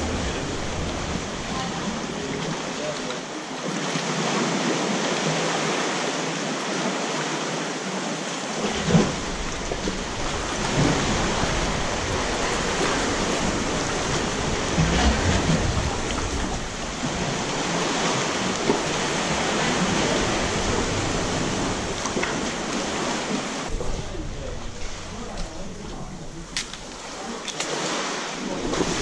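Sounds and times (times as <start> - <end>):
sea water surging in a cave: 0.0 - 29.0
water splashes: 0.0 - 29.0.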